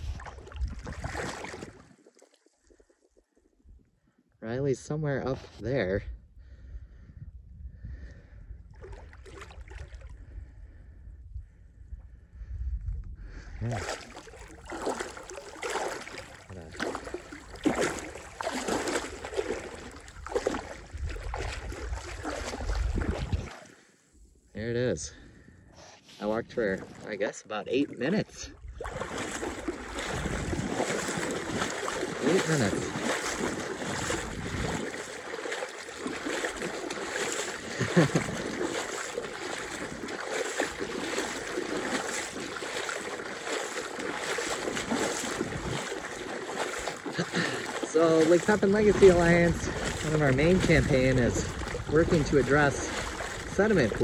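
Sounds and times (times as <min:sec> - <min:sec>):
wind rumble on microphone: 0:00.0 - 0:01.9, 0:04.6 - 0:23.6, 0:28.2 - 0:54.0
wading through shallow water: 0:00.0 - 0:54.0.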